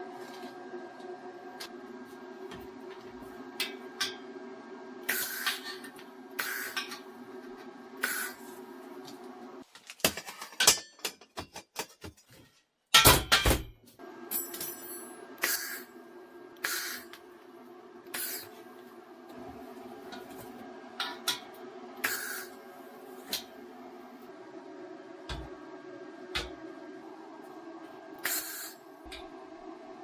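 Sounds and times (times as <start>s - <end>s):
machine hum: 0.0s - 9.6s, 14.0s - 30.0s.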